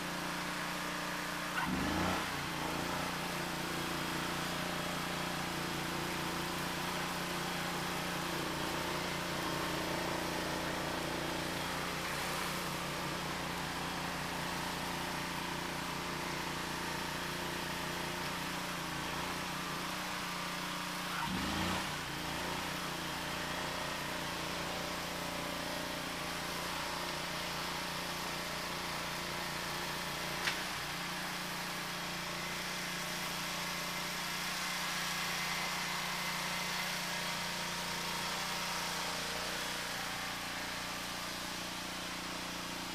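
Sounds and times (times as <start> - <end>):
snow blower engine running: 0.0 - 42.9.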